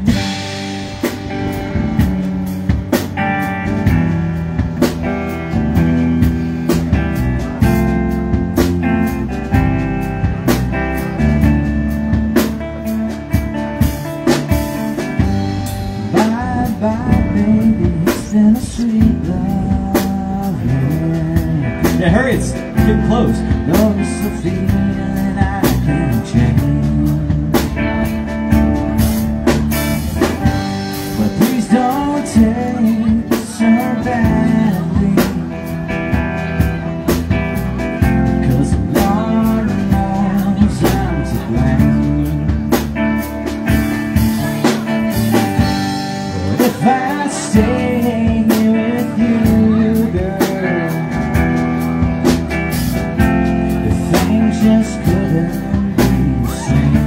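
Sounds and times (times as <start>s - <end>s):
drums and cymbal hits: 0.0s - 57.0s
electric guitar bending notes: 0.0s - 57.0s
live rock band playing: 0.0s - 57.0s.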